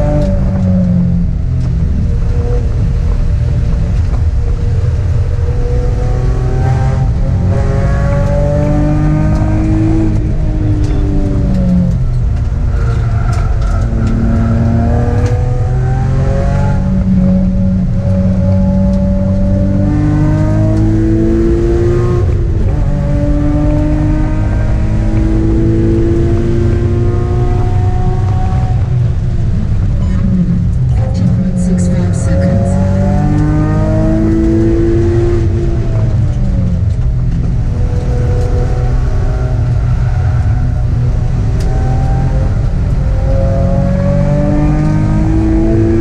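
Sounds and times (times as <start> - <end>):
road and tyre rumble: 0.0 - 46.0
sports car engine revving: 0.0 - 46.0.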